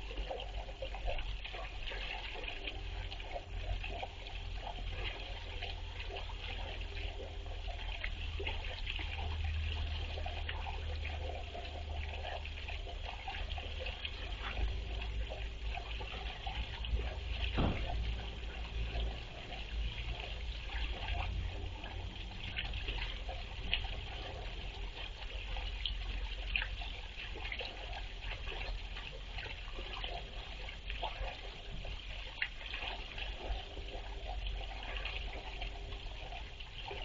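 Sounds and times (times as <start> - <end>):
water trickling into pond: 0.0 - 37.0.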